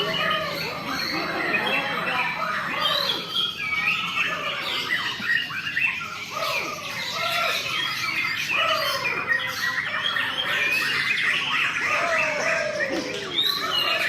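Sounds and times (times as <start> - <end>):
birds singing whistled phrases: 0.0 - 14.0
birds squawking: 0.0 - 14.0.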